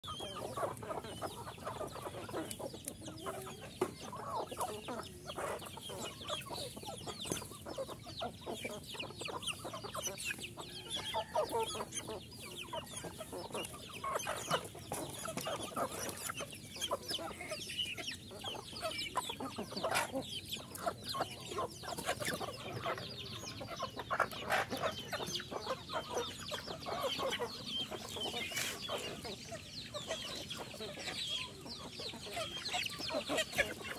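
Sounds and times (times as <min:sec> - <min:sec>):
hens and roosters clucking: 0:00.0 - 0:33.9.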